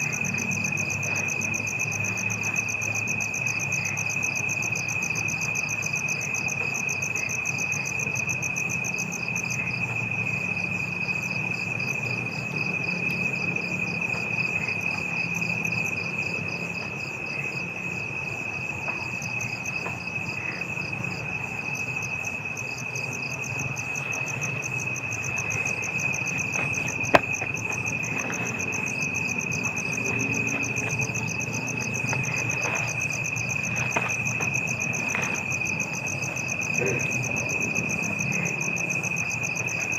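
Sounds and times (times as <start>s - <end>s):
crickets trilling: 0.0s - 39.9s
insects pulsing chirps: 0.0s - 39.9s.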